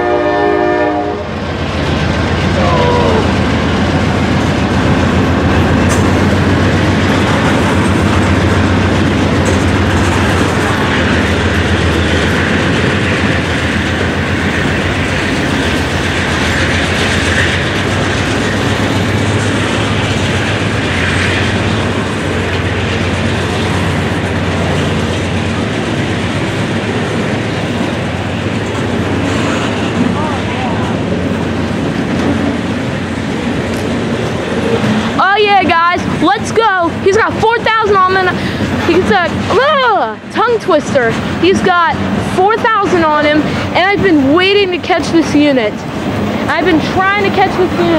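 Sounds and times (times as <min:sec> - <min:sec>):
steel wheels on rail: 0:00.0 - 0:47.9
wheels clicking over rail joints: 0:03.3 - 0:47.9.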